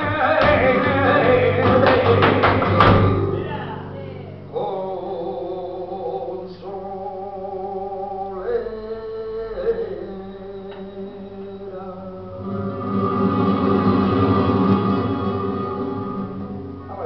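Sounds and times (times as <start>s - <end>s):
man singing flamenco: 0.0s - 17.0s.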